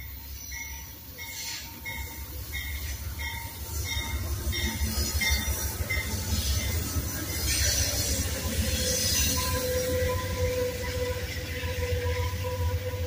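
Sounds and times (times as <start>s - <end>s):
diesel train rumbling past: 0.0s - 13.0s
train wheel noise: 0.0s - 13.0s.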